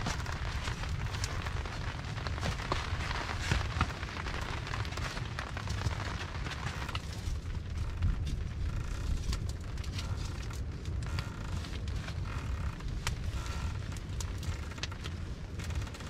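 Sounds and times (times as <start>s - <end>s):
fire low rumble: 0.0s - 16.0s
wood fire crackling and popping: 0.0s - 16.0s.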